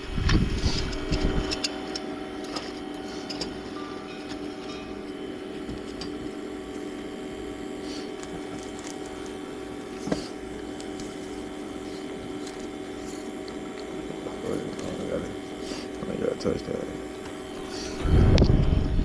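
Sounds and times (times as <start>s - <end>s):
mechanical hum of equipment: 0.0s - 19.0s.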